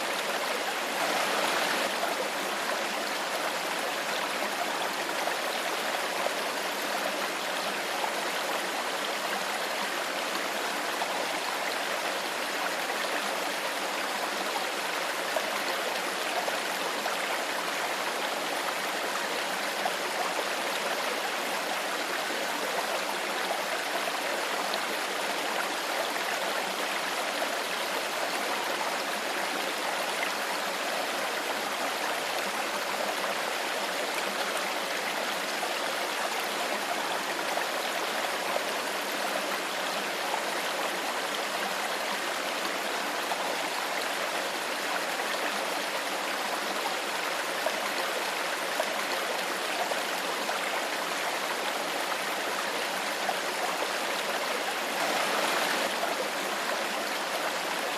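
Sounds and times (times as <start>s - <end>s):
stream water gurgling: 0.0s - 57.9s.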